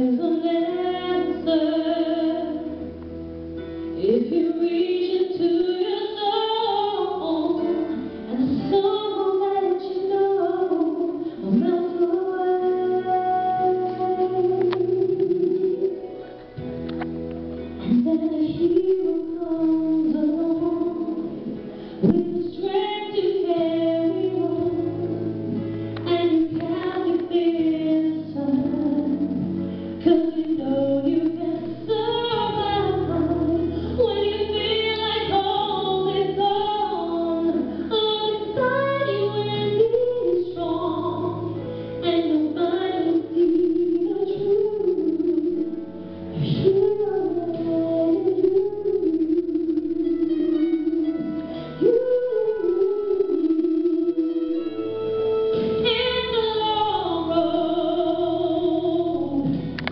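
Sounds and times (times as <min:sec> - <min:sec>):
woman singing a ballad: 0:00.0 - 0:03.0, 0:03.9 - 0:16.2, 0:17.8 - 0:59.9
instrumental accompaniment: 0:00.0 - 0:59.9.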